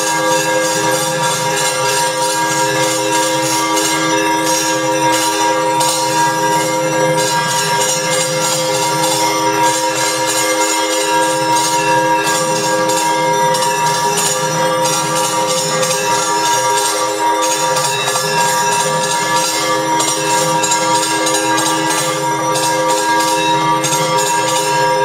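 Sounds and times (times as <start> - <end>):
temple bells clanging: 0.0 - 25.0.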